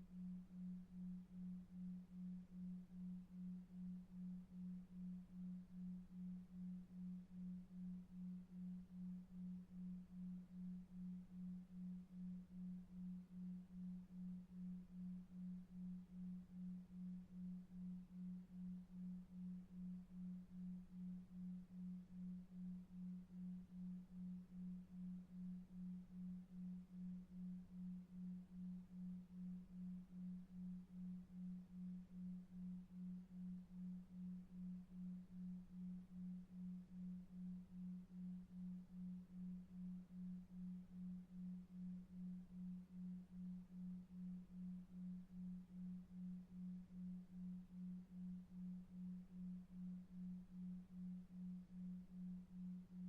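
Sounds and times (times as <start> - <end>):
pulsing low electronic sine tone: 0.0 - 53.0.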